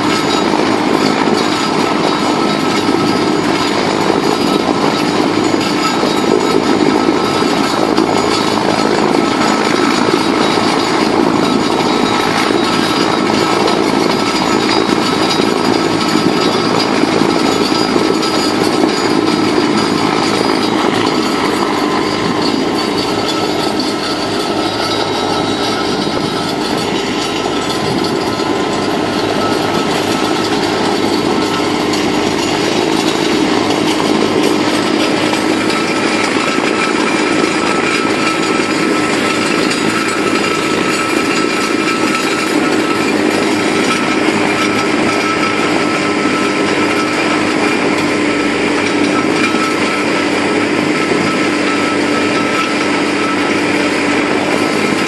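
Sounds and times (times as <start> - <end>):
slurry mixer droning: 0.0 - 55.0.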